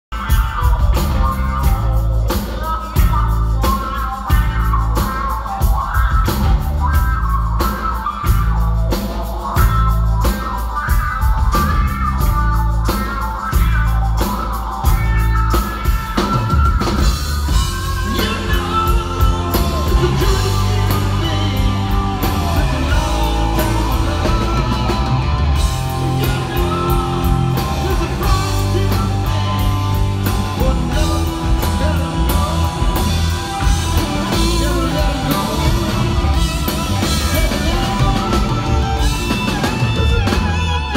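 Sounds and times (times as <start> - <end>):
live rock band playing: 0.0 - 40.9
bending electric guitar lead: 0.1 - 40.9
drum kit beat: 0.1 - 40.9.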